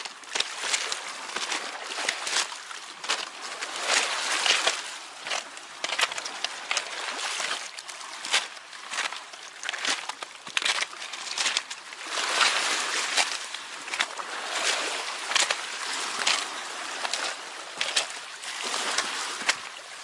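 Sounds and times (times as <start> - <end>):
small waves on pebble beach: 0.0 - 20.0.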